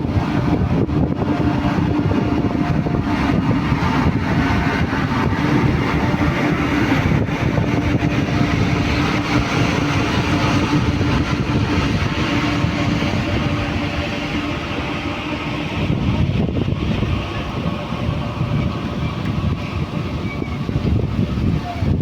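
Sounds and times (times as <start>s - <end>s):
constant hum: 0.0s - 22.0s
train wheels rumbling on track: 0.0s - 22.0s.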